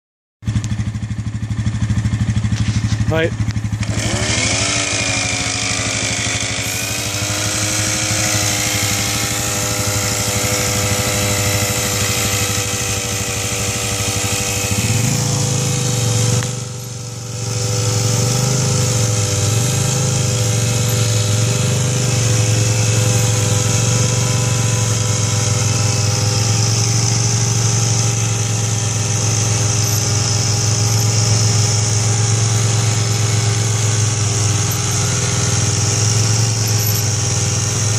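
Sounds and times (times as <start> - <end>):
quad bike engine: 0.4 - 37.9
small petrol engine running: 0.4 - 37.9
deeper engine note: 0.5 - 36.6.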